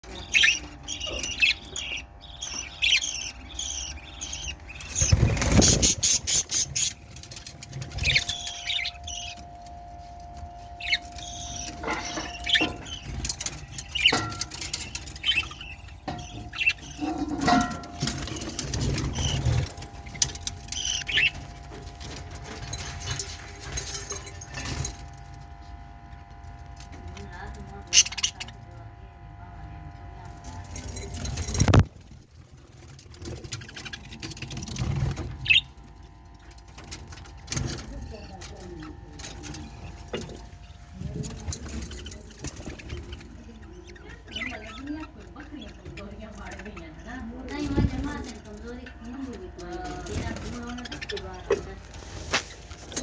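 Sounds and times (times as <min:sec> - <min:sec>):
parrots chirping and squealing: 0:00.0 - 0:09.5, 0:10.8 - 0:25.1, 0:27.7 - 0:28.6, 0:30.4 - 0:53.0
steady low hum: 0:00.0 - 0:53.0.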